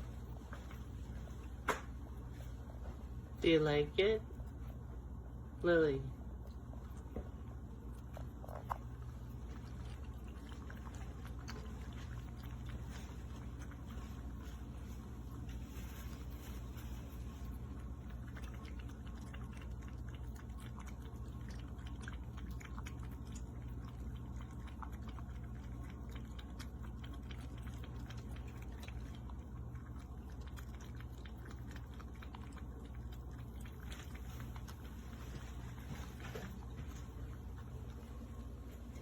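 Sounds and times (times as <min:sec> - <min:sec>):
cat lapping water: 0:00.0 - 0:39.0.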